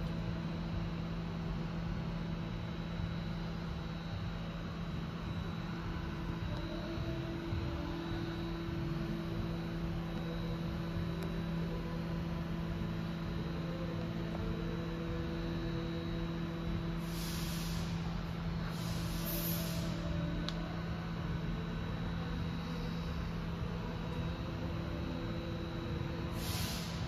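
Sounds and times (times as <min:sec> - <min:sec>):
machine electrical hum with fan: 0:00.0 - 0:27.0.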